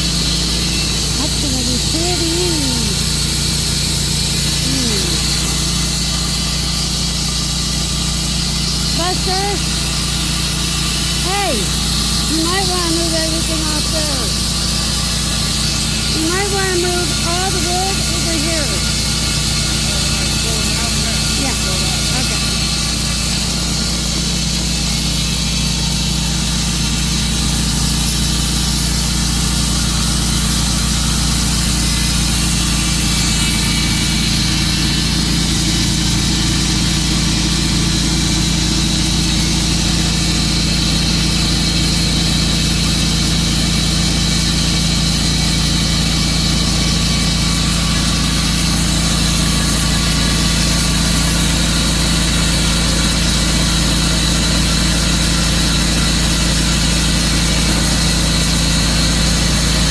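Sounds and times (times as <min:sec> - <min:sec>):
sawmill sawing through log: 0:00.0 - 0:59.9.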